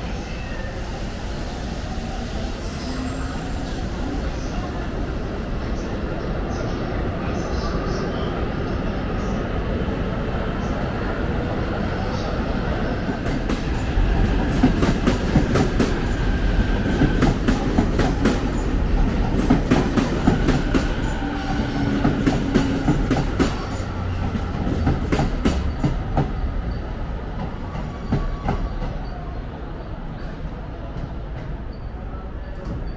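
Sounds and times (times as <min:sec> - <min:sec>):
train rumble: 0:00.0 - 0:32.9.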